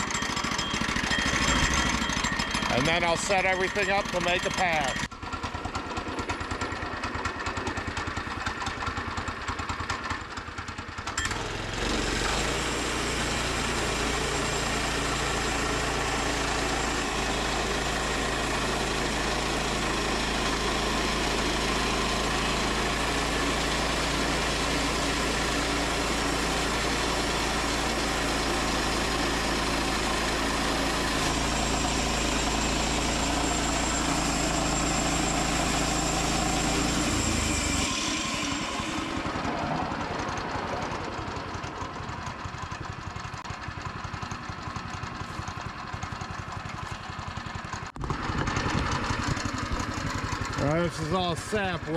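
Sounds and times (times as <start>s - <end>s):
small gas engine idling and revving: 0.0s - 51.9s.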